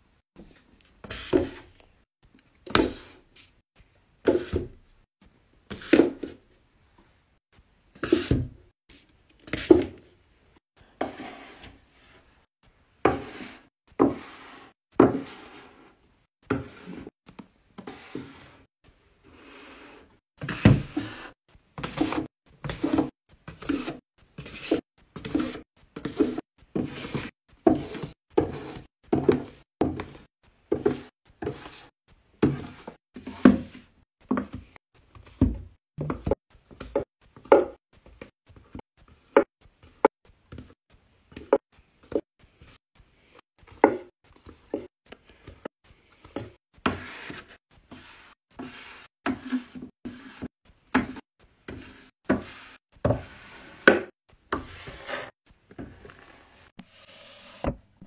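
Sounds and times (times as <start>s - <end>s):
books sliding and scraping: 0.4s - 1.8s, 7.9s - 10.1s, 11.0s - 57.8s.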